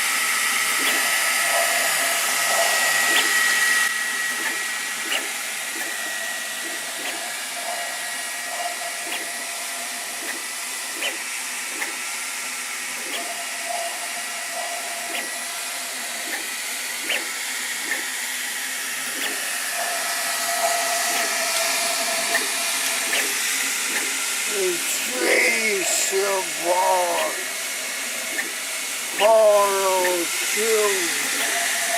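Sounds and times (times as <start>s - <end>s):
fan whirring: 0.0s - 31.9s
thin motor tone: 0.0s - 31.9s.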